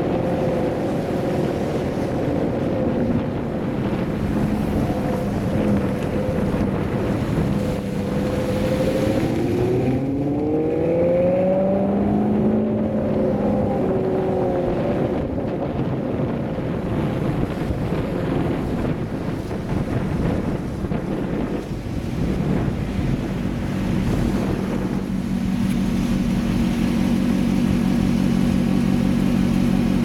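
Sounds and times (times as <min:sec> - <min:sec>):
car exhaust accelerating: 0:00.0 - 0:30.0
wind noise on microphone: 0:00.0 - 0:30.0.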